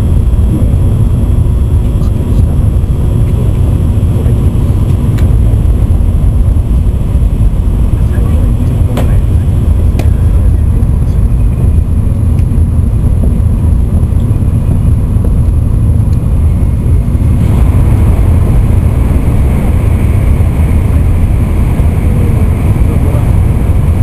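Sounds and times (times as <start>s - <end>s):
train rumbling at speed: 0.0s - 24.0s.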